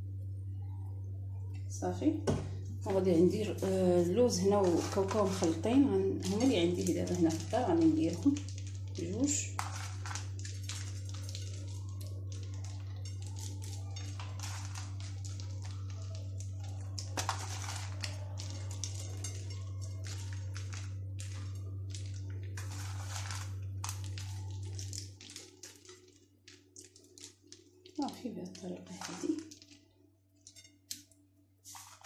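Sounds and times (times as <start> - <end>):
low electrical hum: 0.0 - 32.0
nuts scattering with light rustles: 4.3 - 31.1, 31.7 - 32.0.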